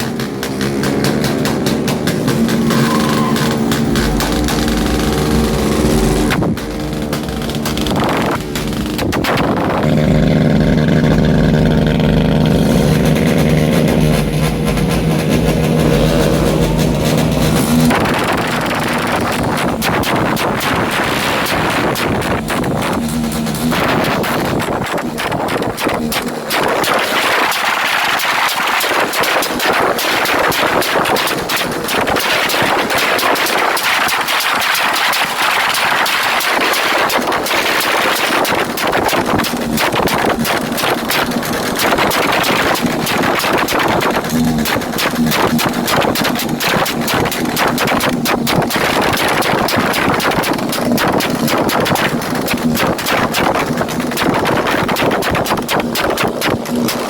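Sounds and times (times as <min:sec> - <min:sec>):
exhaust crackling pops: 0:00.0 - 0:57.0
motorcycle engine at high revs: 0:00.0 - 0:57.0.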